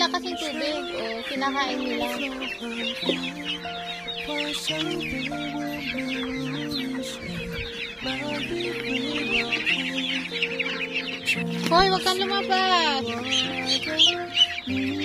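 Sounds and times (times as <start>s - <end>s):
background music: 0.0s - 15.0s
chicks peeping: 0.0s - 15.0s.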